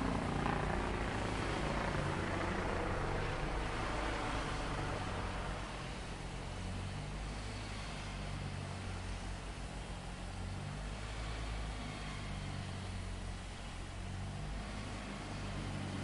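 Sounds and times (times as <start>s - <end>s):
even hiss: 0.0s - 16.0s
low machinery hum: 0.0s - 16.0s.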